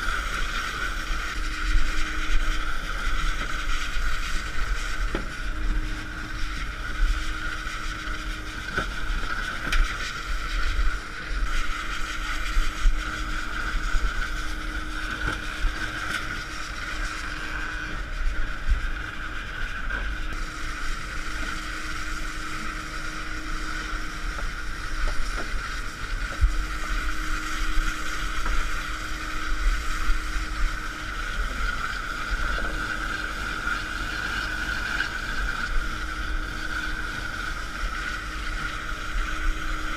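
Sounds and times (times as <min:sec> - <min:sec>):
boat engine whining: 0:00.0 - 0:39.9
low hum: 0:00.0 - 0:39.9.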